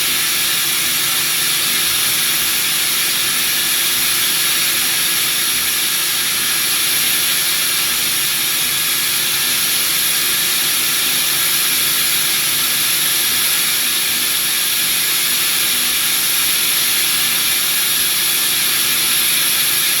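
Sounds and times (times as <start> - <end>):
cnc router machining hiss: 0.0 - 20.0.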